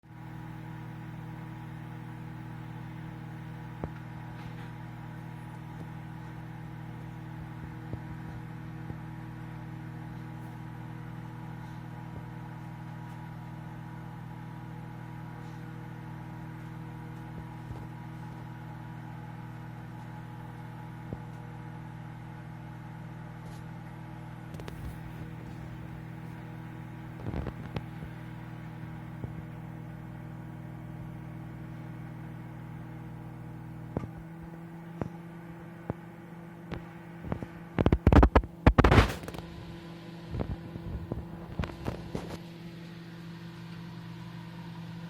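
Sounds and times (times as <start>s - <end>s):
microwave oven humming: 0.0s - 45.0s.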